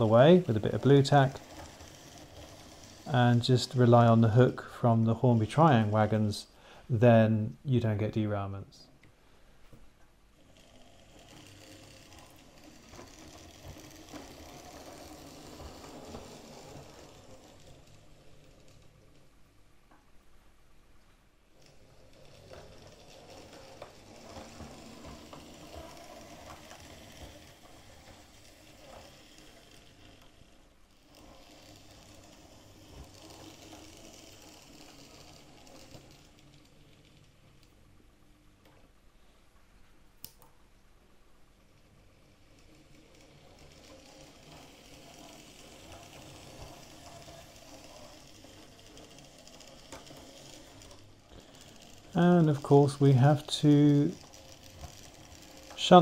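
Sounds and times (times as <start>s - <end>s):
wheels clicking on rails: 0.0s - 6.5s, 10.4s - 20.4s, 21.5s - 39.0s, 41.6s - 56.0s
model train motor whirring: 0.0s - 6.8s, 10.3s - 19.6s, 21.5s - 38.1s, 41.7s - 56.0s.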